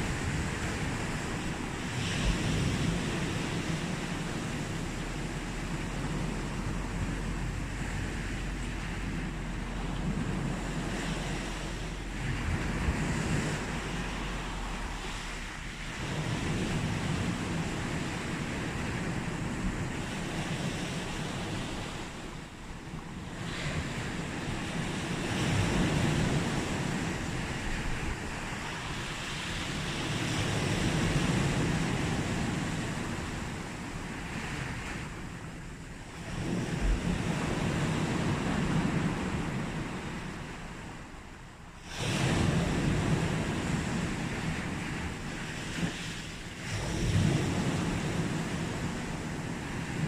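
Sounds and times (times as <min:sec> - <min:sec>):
sea waves breaking on beach: 0:00.0 - 0:50.0
wind on microphone: 0:00.0 - 0:50.0.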